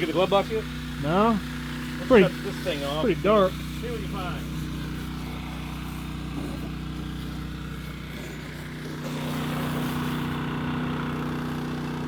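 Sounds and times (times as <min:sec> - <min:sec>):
pressure washer hiss: 0:00.0 - 0:12.0
small gasoline engine running: 0:00.0 - 0:12.0.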